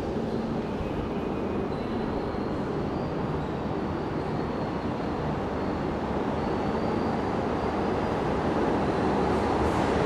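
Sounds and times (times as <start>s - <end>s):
train rumble in tunnel: 0.0s - 10.0s.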